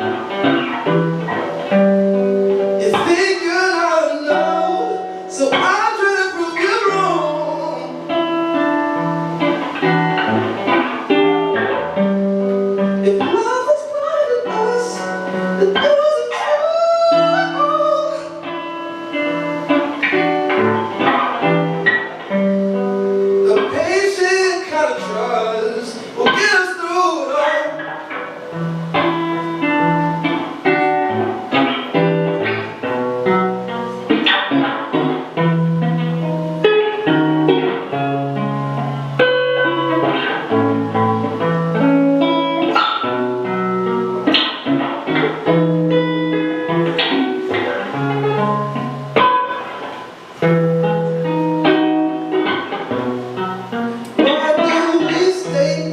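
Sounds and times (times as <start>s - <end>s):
acoustic guitar plucked notes: 0.0s - 55.9s.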